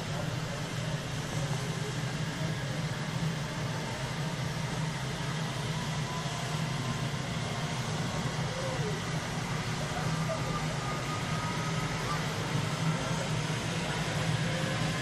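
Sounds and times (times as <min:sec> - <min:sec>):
helicopter rotors droning: 0:00.0 - 0:15.0.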